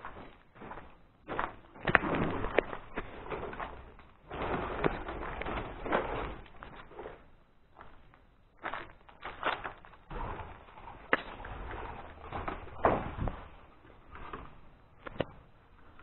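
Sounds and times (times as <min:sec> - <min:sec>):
footsteps on wooden boards: 0:00.0 - 0:15.4.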